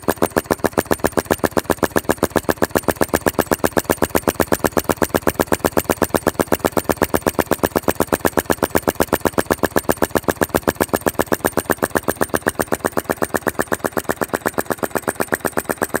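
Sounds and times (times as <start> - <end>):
model engine rapid beat: 0.0 - 16.0.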